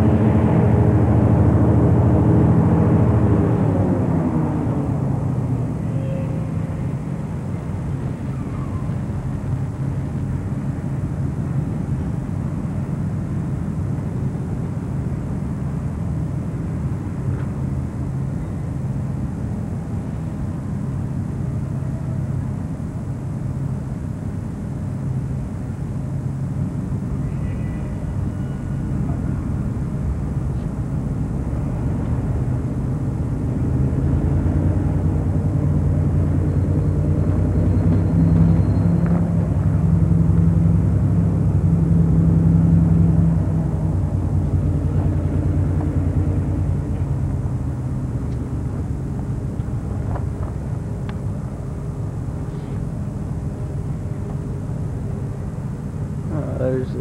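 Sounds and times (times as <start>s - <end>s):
diesel locomotive engine rumbling: 0.0s - 57.0s.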